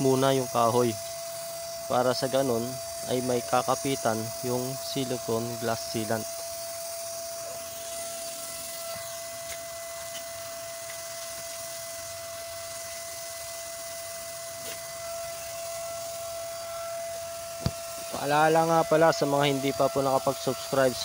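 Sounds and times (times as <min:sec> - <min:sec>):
high whine: 0:00.0 - 0:21.0
paint spray gun hissing: 0:00.0 - 0:21.0.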